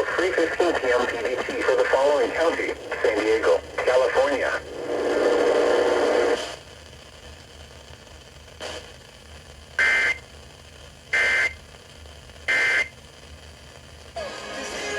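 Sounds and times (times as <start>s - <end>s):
low radio hiss: 0.0s - 14.9s.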